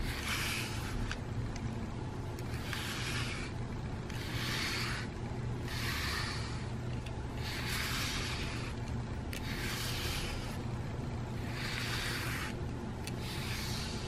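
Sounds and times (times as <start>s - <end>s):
brush rasping through fur: 0.0s - 1.2s, 2.4s - 14.0s.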